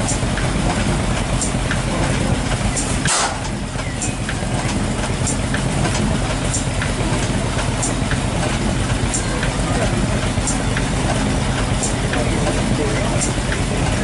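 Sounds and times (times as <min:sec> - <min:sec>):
stationary engine chuffing: 0:00.0 - 0:14.0.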